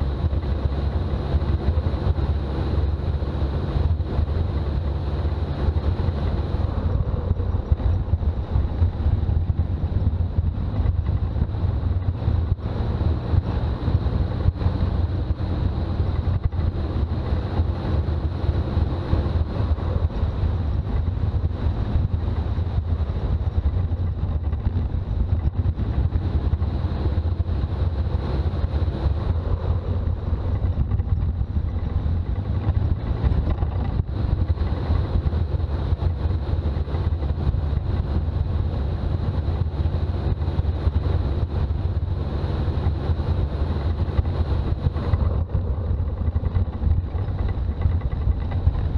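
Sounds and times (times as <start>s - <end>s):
diesel engine driving: 0.0s - 48.9s
road noise: 0.0s - 48.9s.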